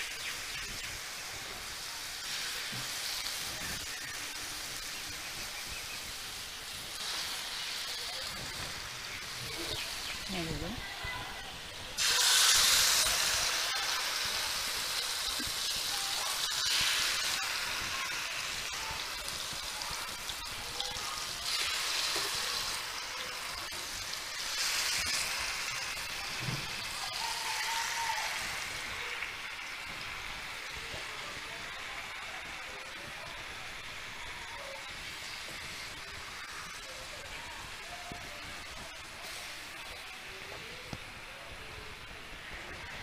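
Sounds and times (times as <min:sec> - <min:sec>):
chicken sizzling in frying pan: 0:00.0 - 0:43.0.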